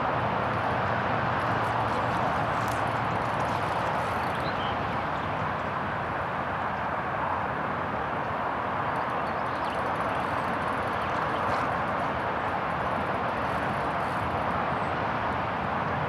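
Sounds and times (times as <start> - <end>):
wind in trees and reeds: 0.0 - 16.0.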